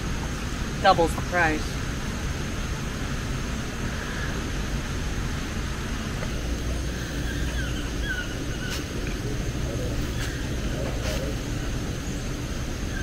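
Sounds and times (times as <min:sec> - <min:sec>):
faint birds chirping: 0:00.3 - 0:13.0.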